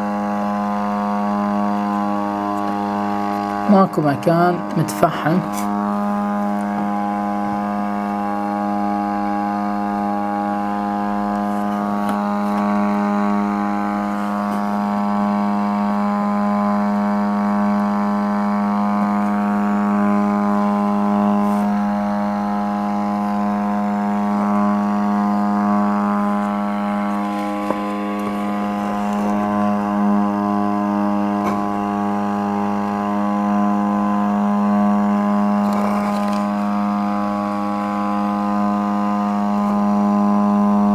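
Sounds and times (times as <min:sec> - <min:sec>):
amplifier hum-buzz: 0:00.0 - 0:40.9.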